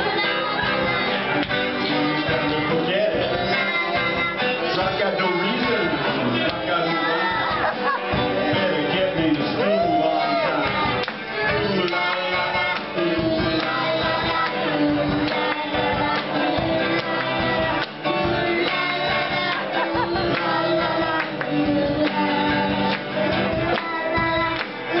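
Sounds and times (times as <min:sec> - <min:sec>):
live rock band playing: 0:00.0 - 0:25.0
voices singing along: 0:00.0 - 0:25.0.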